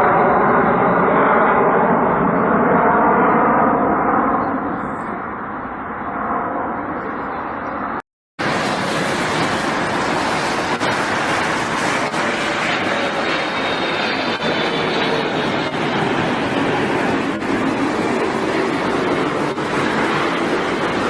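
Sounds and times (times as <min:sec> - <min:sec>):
airplane engines roaring: 0:00.0 - 0:21.0.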